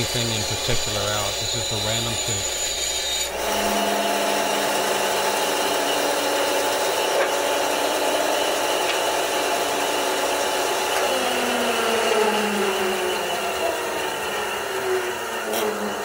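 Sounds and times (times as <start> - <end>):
band saw cutting wood: 0.0 - 16.0.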